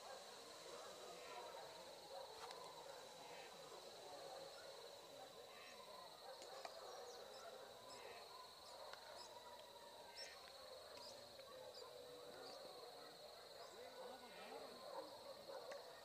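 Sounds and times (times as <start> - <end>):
high insect drone: 0.0 - 15.4
murmur of distant voices: 0.0 - 16.0.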